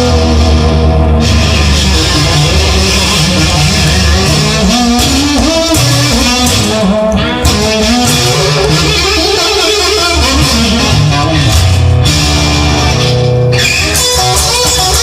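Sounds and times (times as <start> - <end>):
lead guitar: 0.0 - 15.0
steady bass: 0.0 - 15.0.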